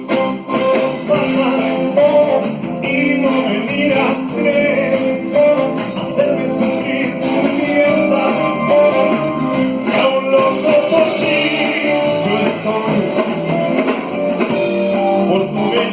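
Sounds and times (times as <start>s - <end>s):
live rock and roll band: 0.0s - 15.9s.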